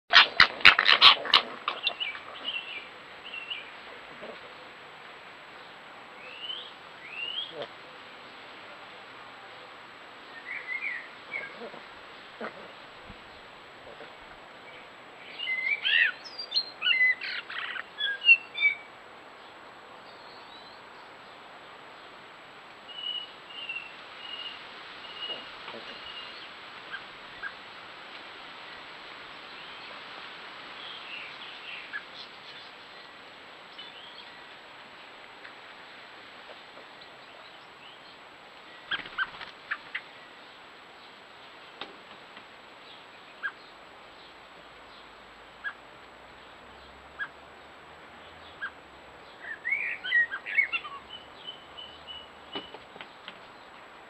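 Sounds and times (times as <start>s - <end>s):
small birds chirping: 0.1s - 4.7s, 10.3s - 22.2s, 22.9s - 27.6s, 30.7s - 53.9s
steady background hiss: 0.1s - 54.0s.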